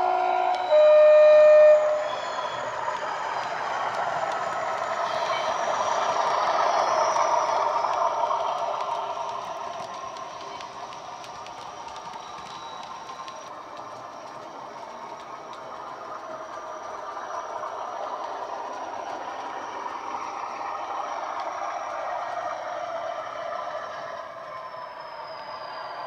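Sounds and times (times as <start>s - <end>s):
simulated diesel engine sound: 0.0s - 26.0s.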